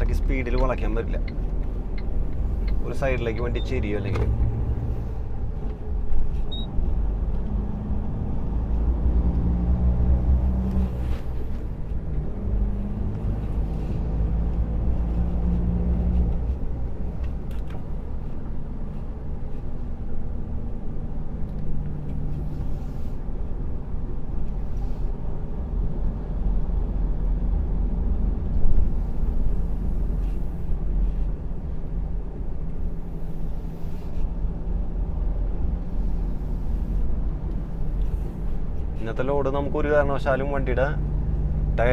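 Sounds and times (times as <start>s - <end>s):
truck diesel engine humming: 0.0s - 41.7s
road rumble: 0.0s - 41.9s.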